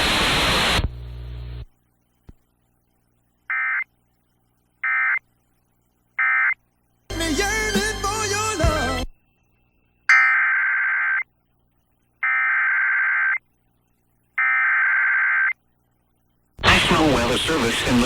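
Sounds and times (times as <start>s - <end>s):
broadcast hiss: 0.0s - 9.9s, 10.8s - 18.0s.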